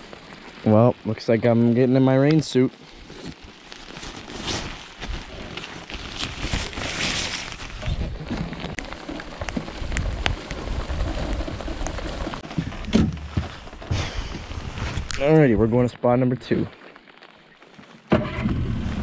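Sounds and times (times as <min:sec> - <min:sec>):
rain suit rustling: 0:00.0 - 0:18.1
light rain pattering: 0:00.0 - 0:19.0.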